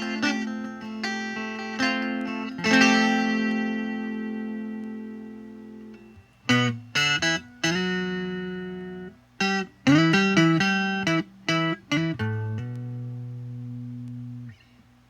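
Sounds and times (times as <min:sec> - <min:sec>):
electric twelve-string guitar riff: 0:00.0 - 0:14.7.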